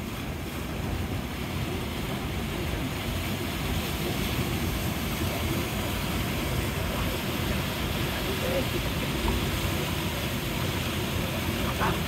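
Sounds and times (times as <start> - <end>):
water rushing and churning: 0.0 - 12.0.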